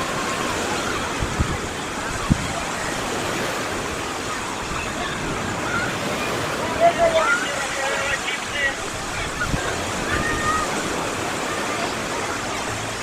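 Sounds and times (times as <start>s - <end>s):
small waves breaking on beach: 0.0s - 13.0s.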